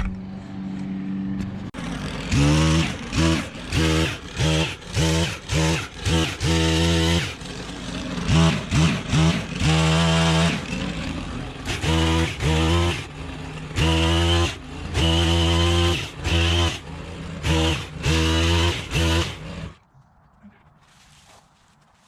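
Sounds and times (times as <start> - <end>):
pole pruner engine revving: 1.6 - 19.8.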